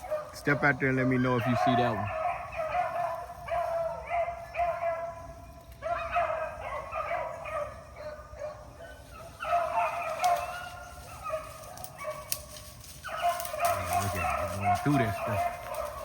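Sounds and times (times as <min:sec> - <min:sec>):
hound baying: 0:00.0 - 0:16.0.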